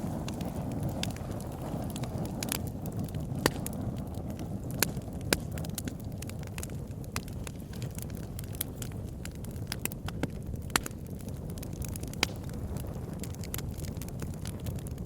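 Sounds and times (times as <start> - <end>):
campfire crackling and popping: 0.0 - 15.0
flames rumbling: 0.0 - 15.0.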